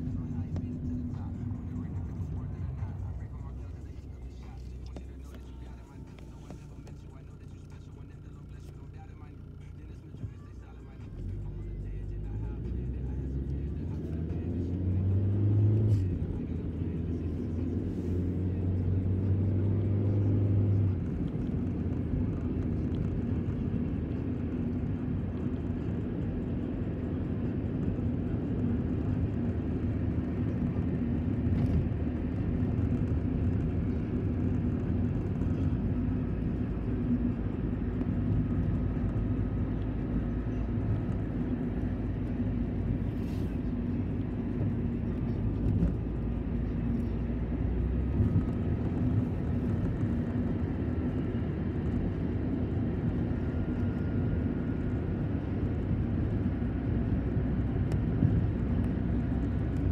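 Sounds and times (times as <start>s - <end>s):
vehicle cabin rumble: 0.0s - 59.9s.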